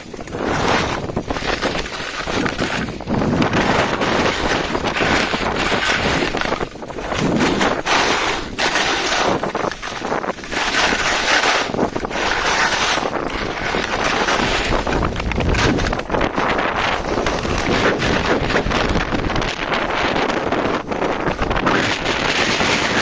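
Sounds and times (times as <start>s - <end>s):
skis scraping over snow: 0.0s - 23.0s
wind rushing over microphone: 0.0s - 23.0s.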